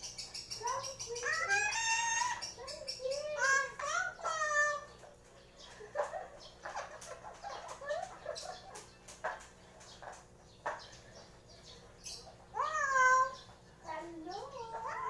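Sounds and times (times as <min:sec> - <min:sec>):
parrot chattering and chirping: 0:00.0 - 0:15.0.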